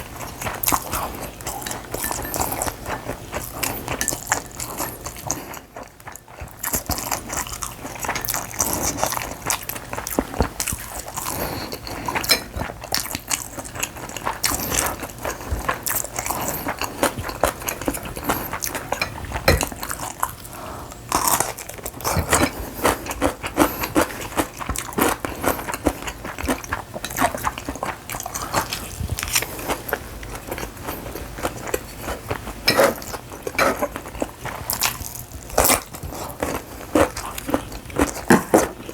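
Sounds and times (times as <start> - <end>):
person chewing and crunching: 0.0 - 38.9.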